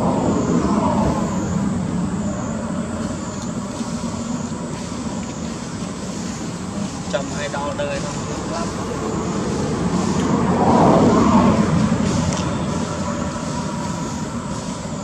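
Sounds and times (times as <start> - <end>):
traffic engine and road noise: 0.0 - 15.0.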